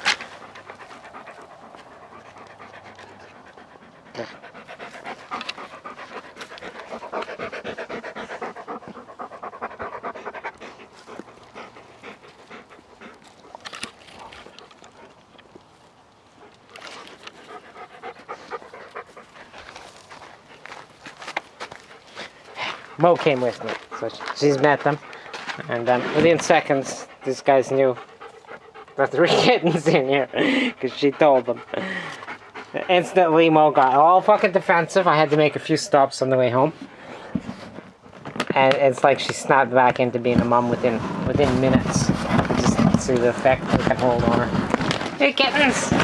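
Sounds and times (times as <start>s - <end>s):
dog panting: 0.0s - 38.2s, 39.0s - 46.0s.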